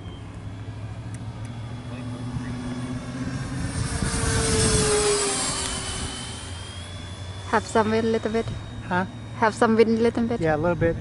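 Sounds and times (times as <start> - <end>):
model jet ducted fans whooshing: 0.0 - 11.0.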